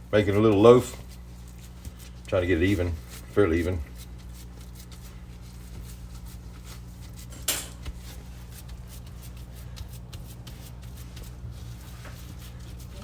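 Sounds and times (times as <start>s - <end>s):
hands patting and squishing meat: 0.1s - 13.0s.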